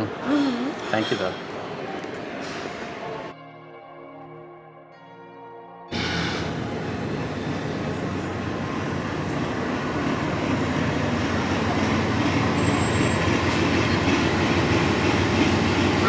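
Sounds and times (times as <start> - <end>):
bus engine running: 0.0 - 3.3, 5.9 - 16.0.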